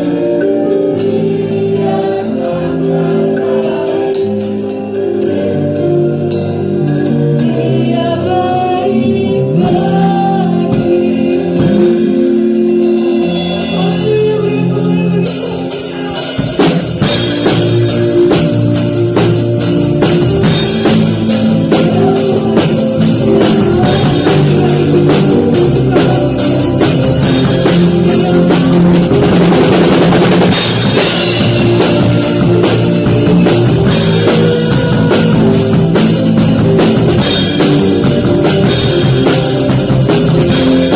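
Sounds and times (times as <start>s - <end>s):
people singing: 0.0s - 18.4s, 20.0s - 40.9s
bass guitar: 0.0s - 40.9s
drum kit beats and cymbals: 0.0s - 40.9s
electric guitar: 0.0s - 40.9s
keyboard: 0.0s - 40.9s.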